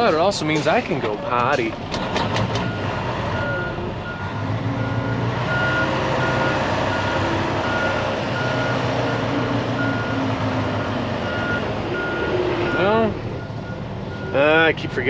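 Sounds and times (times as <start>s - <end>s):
diesel truck engine running: 0.0s - 15.0s
truck reverse alarm beeping: 2.0s - 15.0s.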